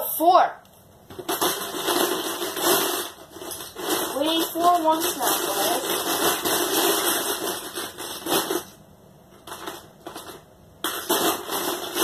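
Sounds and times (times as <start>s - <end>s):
plastic parts clattering: 1.1s - 12.0s.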